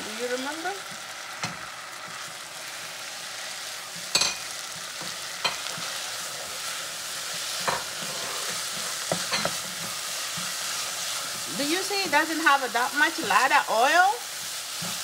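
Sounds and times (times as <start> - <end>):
vegetables sizzling in a saucepan: 0.0 - 15.0.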